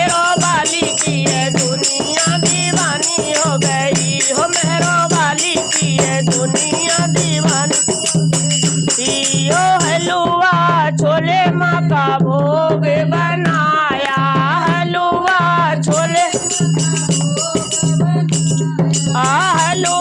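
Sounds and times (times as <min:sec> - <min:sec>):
jingling hand percussion: 0:00.0 - 0:20.0.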